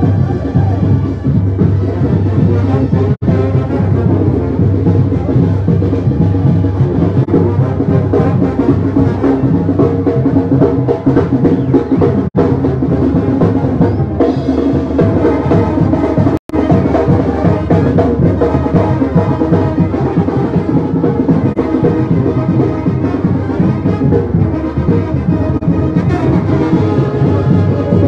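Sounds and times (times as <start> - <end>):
bass drum beat: 0.0 - 28.0
marching brass band playing: 0.0 - 28.0.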